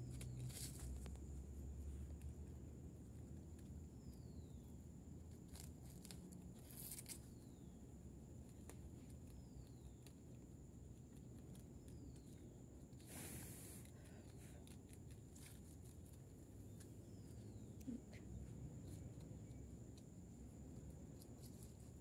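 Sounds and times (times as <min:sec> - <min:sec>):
rustle: 0:00.0 - 0:02.3, 0:03.5 - 0:20.4, 0:21.1 - 0:22.0
rabbits nibbling and chewing: 0:00.0 - 0:22.0.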